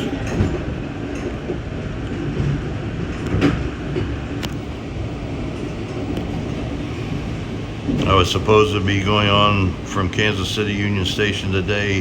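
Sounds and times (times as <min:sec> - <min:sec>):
train coach rumbling on rails: 0:00.0 - 0:12.0.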